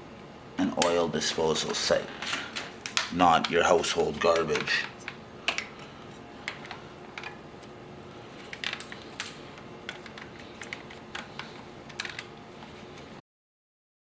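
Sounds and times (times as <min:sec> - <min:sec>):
faint hum: 0:00.0 - 0:13.2.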